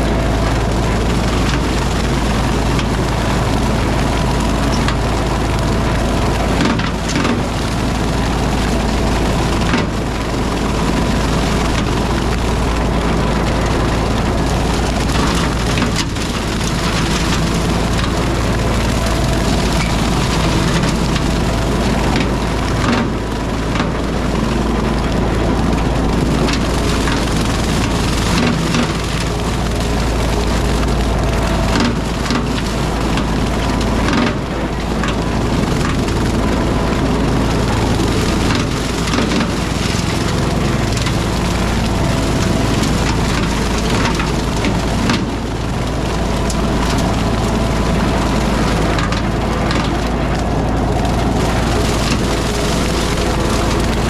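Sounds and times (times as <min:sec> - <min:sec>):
brush cutter shredding brush: 0:00.0 - 0:54.0
tractor engine running: 0:00.0 - 0:54.0.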